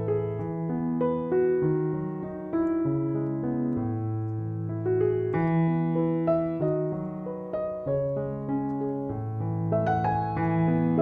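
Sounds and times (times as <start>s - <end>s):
piano piece of held notes: 0.0s - 11.0s.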